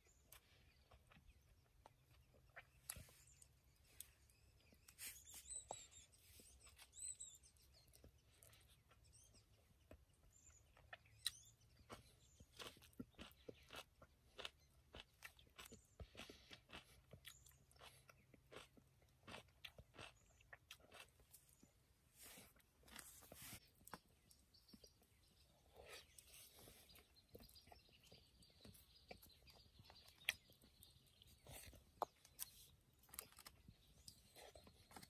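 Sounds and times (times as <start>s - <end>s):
crunchy chewing of food: 0.0s - 35.0s.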